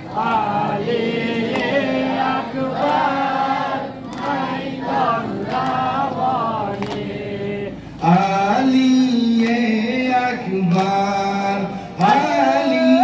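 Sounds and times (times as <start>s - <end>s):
men chanting a mourning lament: 0.0s - 13.0s.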